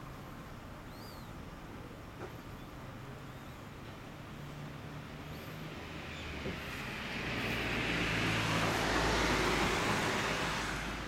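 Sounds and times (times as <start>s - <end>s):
road vehicle passing: 1.7s - 11.0s.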